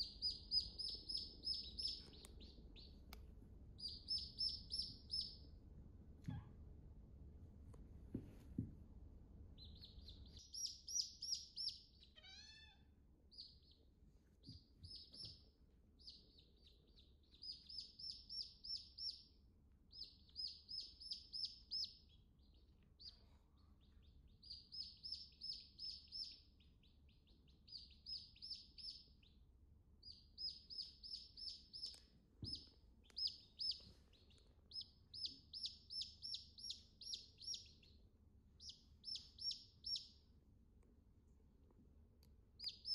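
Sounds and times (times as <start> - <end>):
chicks peeping: 0.0 - 5.5, 9.5 - 29.4, 30.0 - 40.2, 42.6 - 42.9.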